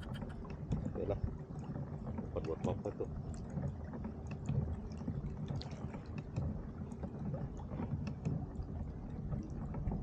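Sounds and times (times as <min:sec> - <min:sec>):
water lapping against kayak hull: 0:00.0 - 0:10.0.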